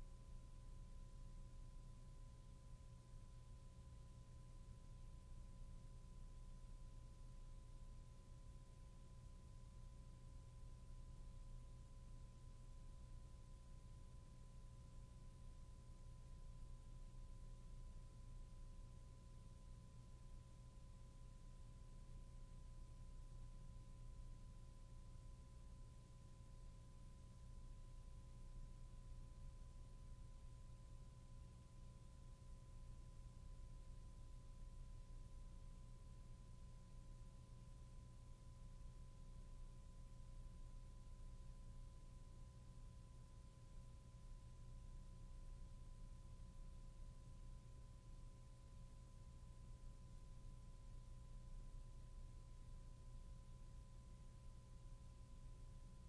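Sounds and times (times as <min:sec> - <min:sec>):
faint hum and hiss: 0:00.0 - 0:56.0.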